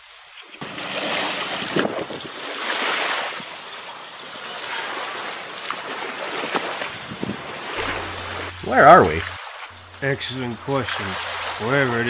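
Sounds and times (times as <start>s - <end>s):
waves washing onto sandy beach: 0.0s - 12.0s.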